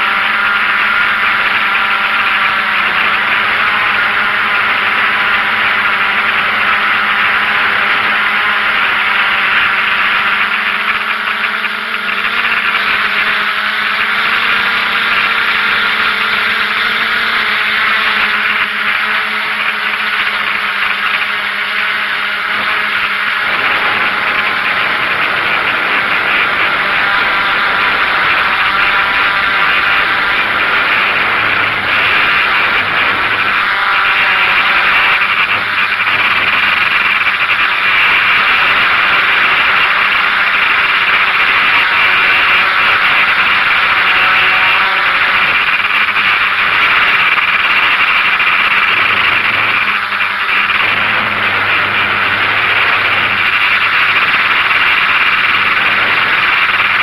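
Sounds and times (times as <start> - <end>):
drone motors and propellers whirring: 0.0 - 57.0.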